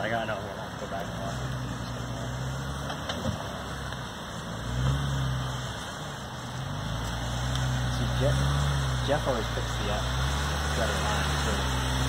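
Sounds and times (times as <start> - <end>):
engine running at low revs: 0.3 - 12.0.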